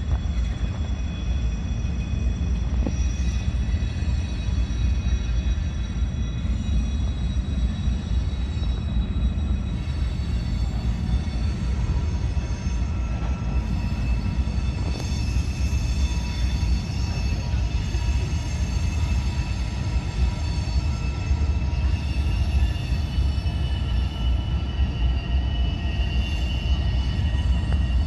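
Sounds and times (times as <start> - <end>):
high wheel squeal: 0.0 - 28.0
train wheels rumbling on rails: 0.0 - 28.0.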